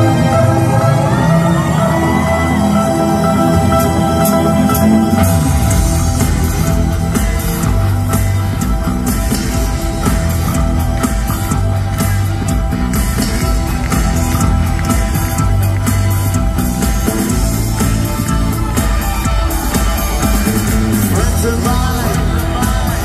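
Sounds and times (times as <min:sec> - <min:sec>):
deep bass line: 0:00.0 - 0:23.0
live rock band playing: 0:00.0 - 0:23.0.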